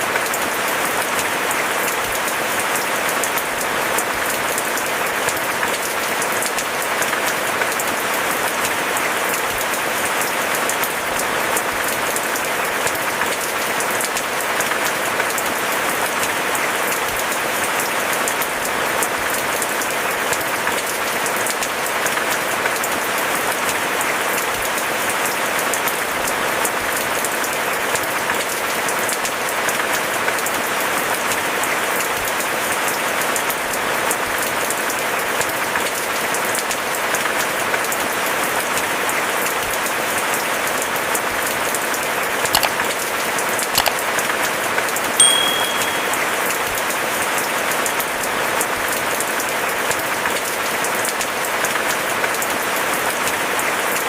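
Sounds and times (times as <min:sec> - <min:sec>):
steady rain falling: 0:00.0 - 0:45.0, 0:45.8 - 0:54.0.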